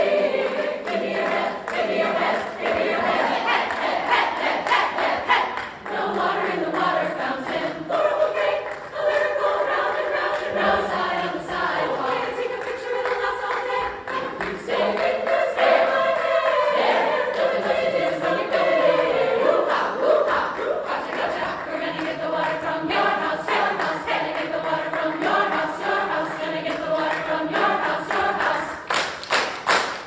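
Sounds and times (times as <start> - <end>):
women's chorus singing: 0.0 - 29.1.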